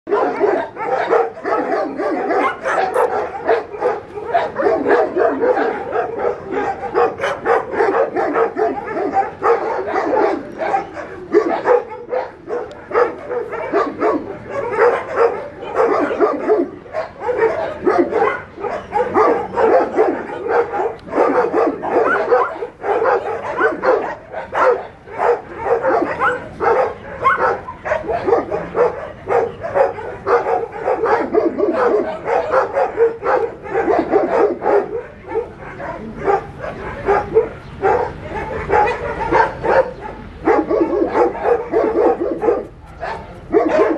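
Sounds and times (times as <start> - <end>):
dogs barking and yipping: 0.1 - 43.9.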